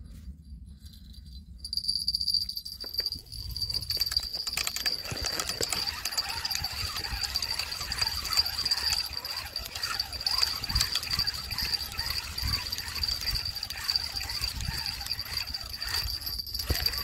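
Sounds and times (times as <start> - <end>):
high-pitched insect trill: 1.7 - 17.0
wind rumble on microphone: 2.6 - 17.0.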